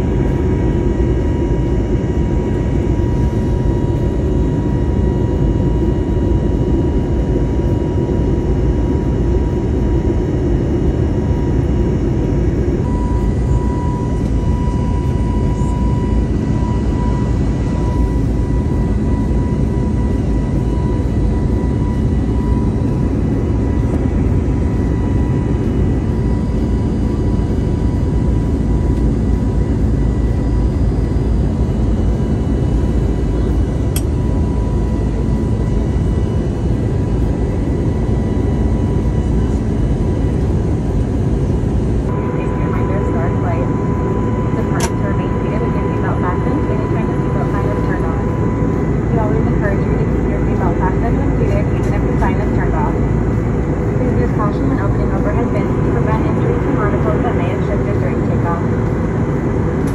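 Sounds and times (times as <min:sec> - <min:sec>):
faint engine whine: 0:00.0 - 0:59.9
jet airliner cabin roar: 0:00.0 - 0:59.9.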